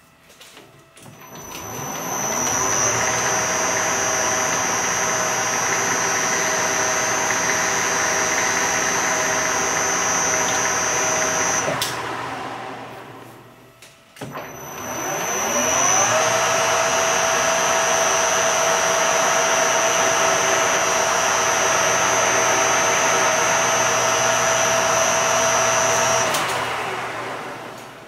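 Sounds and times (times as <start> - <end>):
metal lathe whining: 1.2 - 13.5, 14.3 - 28.0.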